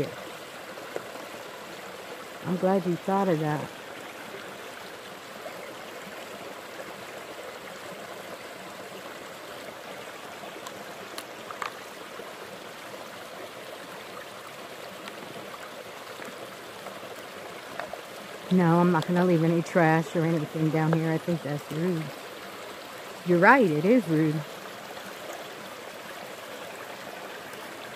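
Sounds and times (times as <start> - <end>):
creek running over rocks: 0.0 - 27.9.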